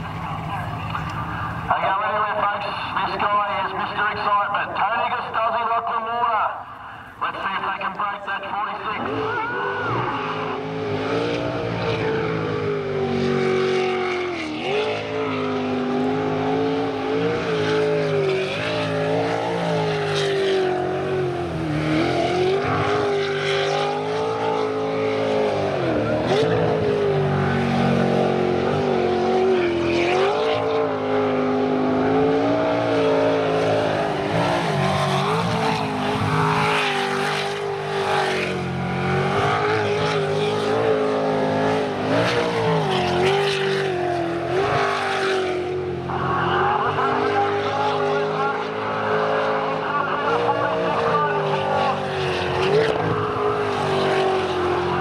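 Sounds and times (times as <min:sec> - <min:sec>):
boat engine at high revs: 0:08.6 - 0:55.0.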